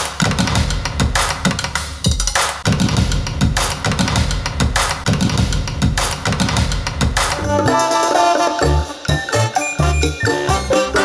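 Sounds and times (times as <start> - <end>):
music with heavy drum beat: 0.0 - 11.0.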